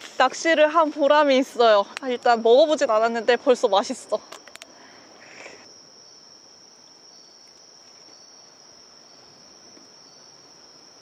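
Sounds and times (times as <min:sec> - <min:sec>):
crickets trilling: 0:00.0 - 0:11.0
fainter lower cricket trill: 0:00.0 - 0:11.0.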